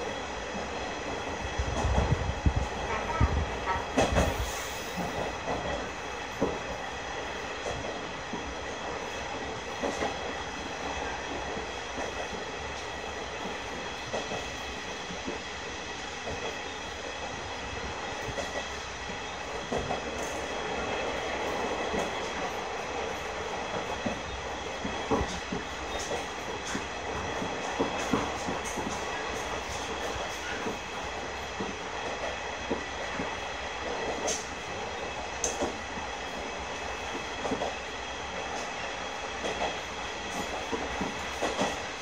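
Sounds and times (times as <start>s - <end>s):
rail joint clacks: 0.0s - 42.0s.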